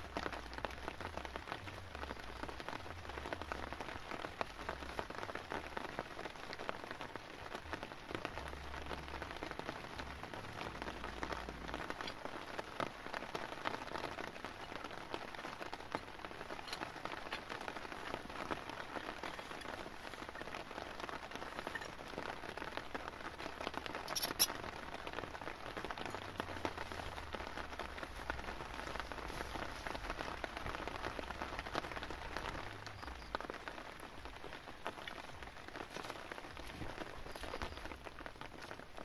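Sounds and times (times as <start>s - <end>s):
rain pattering on tent: 0.0s - 39.0s.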